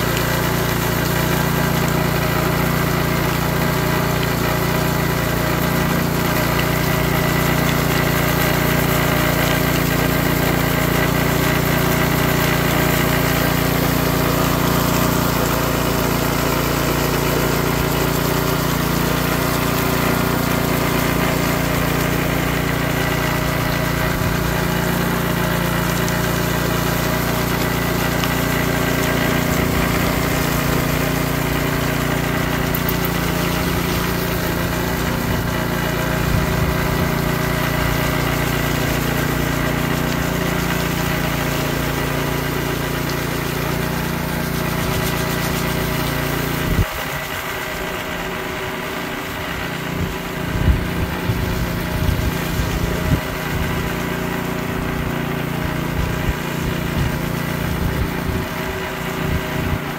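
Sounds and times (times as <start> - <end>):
rotating blades smoothing concrete: 0.0 - 59.9
small petrol engine running: 0.0 - 59.9.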